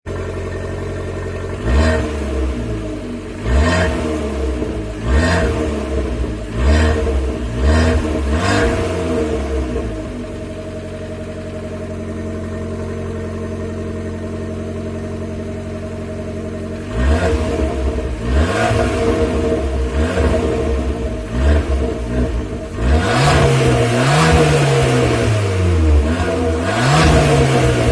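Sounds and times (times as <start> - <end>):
car engine idling: 0.0 - 27.9
car engine revving: 0.1 - 13.2, 14.8 - 27.9.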